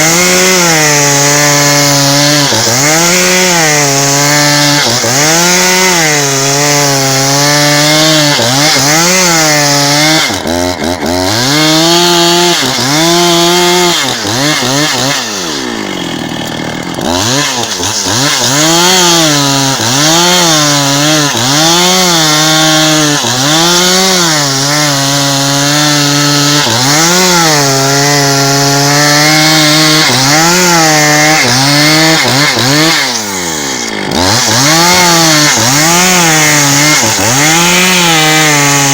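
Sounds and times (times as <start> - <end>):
chainsaw ripping a log: 0.0 - 38.9.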